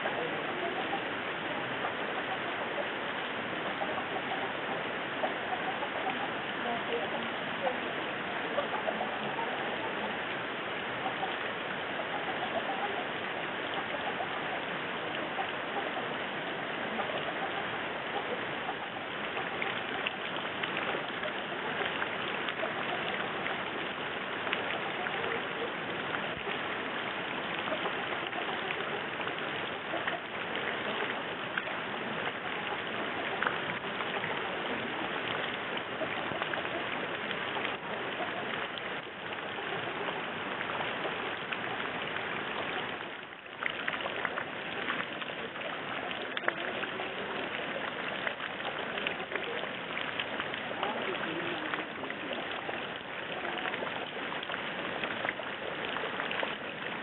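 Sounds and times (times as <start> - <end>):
rain on a tiled roof: 0.0 - 57.0.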